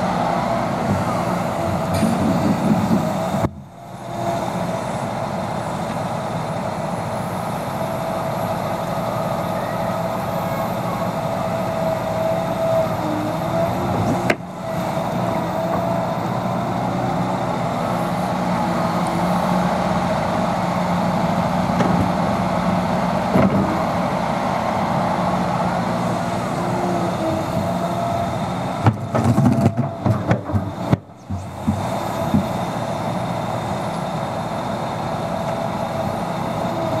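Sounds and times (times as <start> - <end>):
excavator diesel engine under load: 0.0 - 37.0
hydraulic whine: 0.0 - 37.0.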